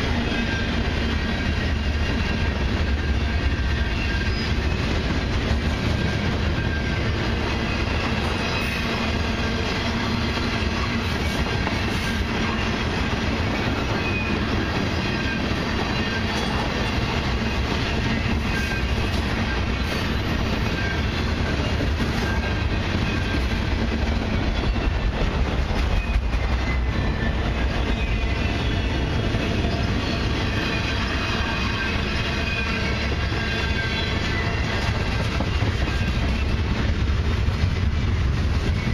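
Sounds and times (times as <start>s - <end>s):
freight train wheels rumbling on rail: 0.0s - 38.9s.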